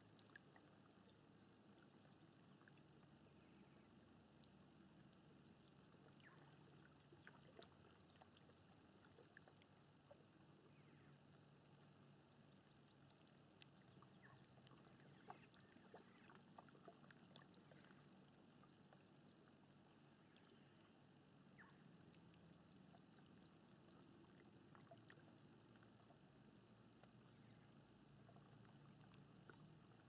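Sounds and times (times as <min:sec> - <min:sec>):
low steady hum: 0:00.0 - 0:30.0
water dripping and lapping: 0:00.0 - 0:30.0.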